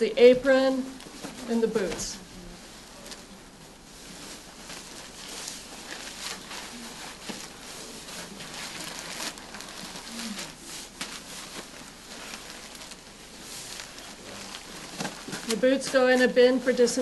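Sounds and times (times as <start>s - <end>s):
plastic coverall rustling: 0.1s - 17.0s.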